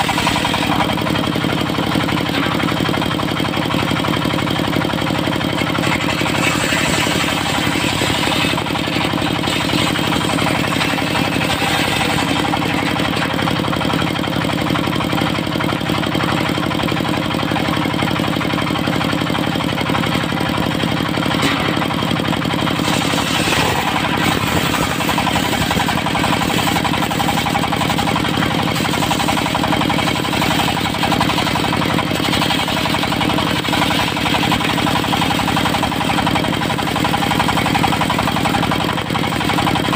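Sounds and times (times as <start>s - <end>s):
diesel engine running sawmill: 0.0s - 39.9s.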